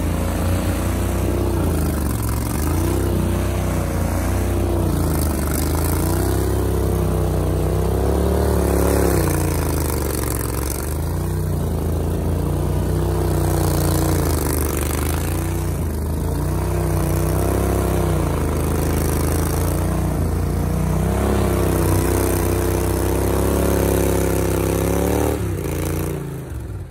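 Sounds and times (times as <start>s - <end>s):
boat motor revving: 0.0s - 26.9s.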